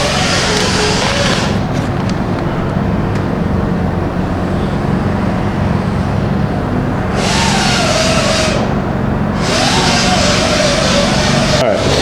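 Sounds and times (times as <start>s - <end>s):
engine cranking on starter: 0.0s - 5.0s, 6.7s - 12.0s.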